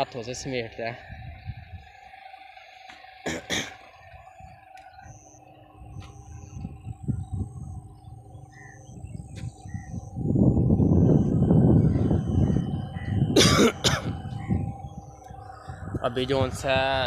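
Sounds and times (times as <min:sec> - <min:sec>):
birds chirping: 0:00.0 - 0:17.0
low uneven rumble: 0:00.0 - 0:17.0.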